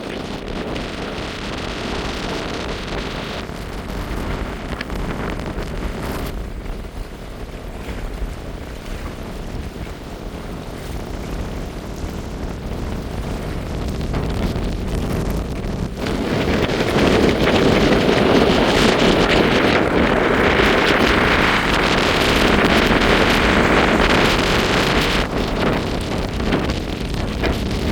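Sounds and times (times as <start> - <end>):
waves washing: 0.0 - 27.9
wind buffeting microphone: 0.0 - 27.9.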